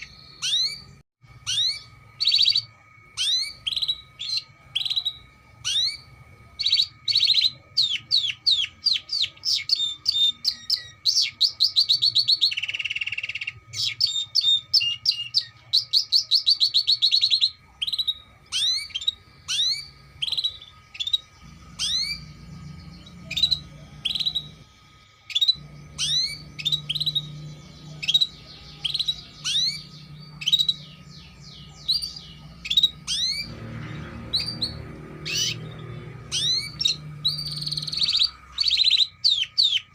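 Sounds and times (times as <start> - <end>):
canary singing trills: 0.0 - 39.9
rising chirps: 0.0 - 39.9.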